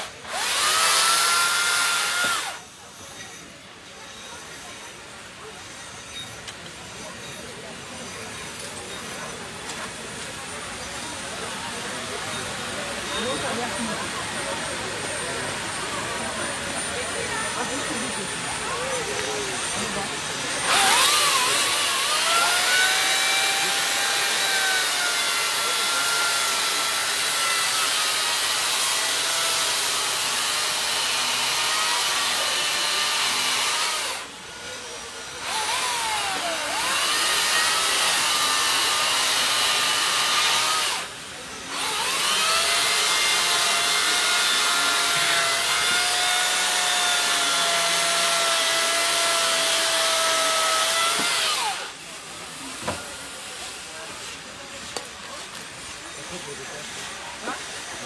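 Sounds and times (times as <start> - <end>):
electric chainsaw cutting ice: 0.0 - 58.0.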